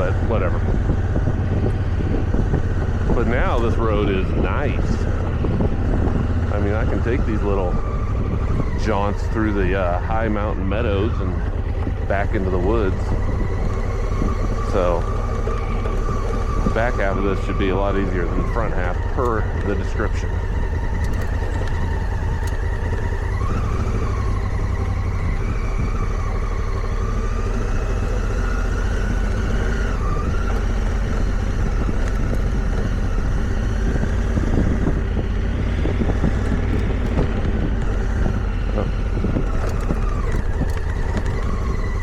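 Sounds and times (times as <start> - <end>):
motorcycle engine revving: 0.0 - 42.0
steady low rumble: 0.0 - 42.0.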